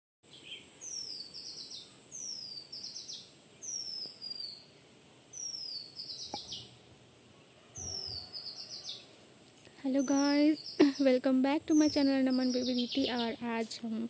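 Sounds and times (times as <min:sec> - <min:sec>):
songbird singing: 0:00.2 - 0:14.0.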